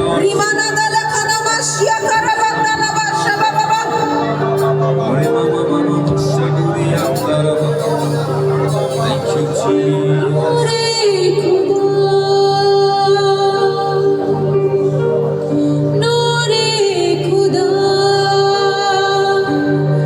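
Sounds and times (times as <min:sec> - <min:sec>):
slow worship music: 0:00.0 - 0:20.0.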